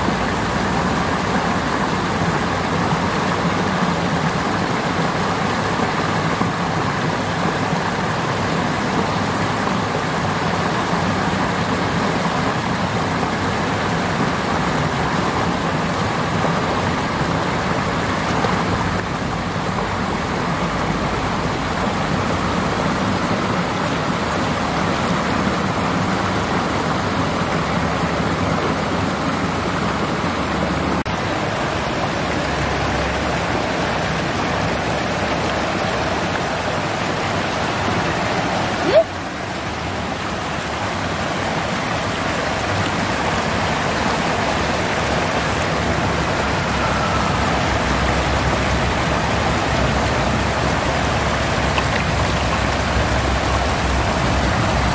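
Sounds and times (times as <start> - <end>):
water rushing over weir: 0.0 - 54.9.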